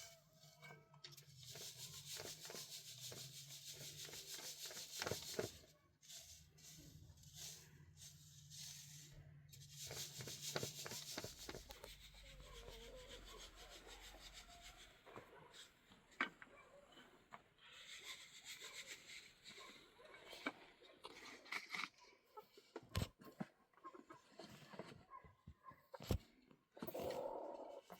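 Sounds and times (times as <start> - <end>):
faint rubbing and scraping: 0.0 - 22.9.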